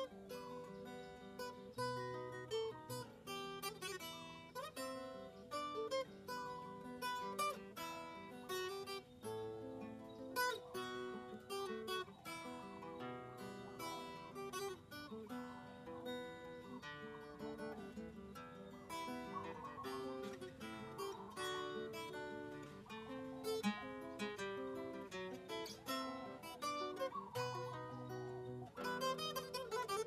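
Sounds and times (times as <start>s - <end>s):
acoustic guitar picking melody: 0.0s - 30.0s.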